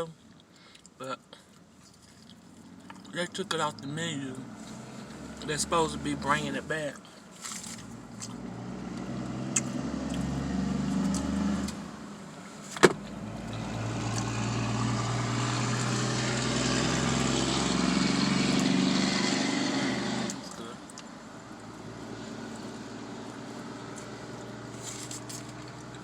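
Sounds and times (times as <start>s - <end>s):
car engine running: 2.3s - 26.0s.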